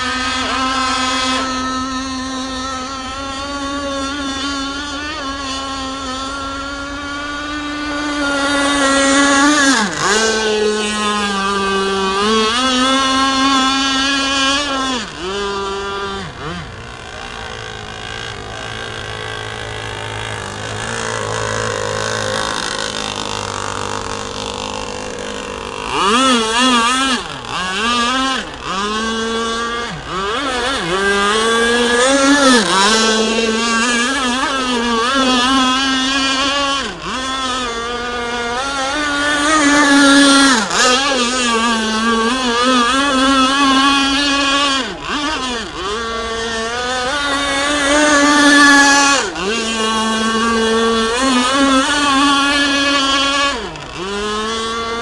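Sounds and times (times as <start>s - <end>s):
model boat engine whining: 0.0s - 55.0s.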